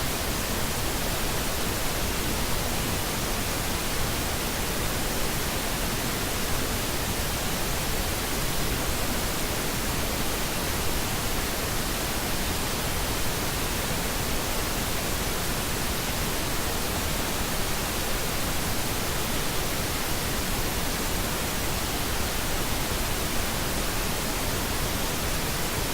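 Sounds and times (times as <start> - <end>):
steady pink noise hiss: 0.0 - 25.9.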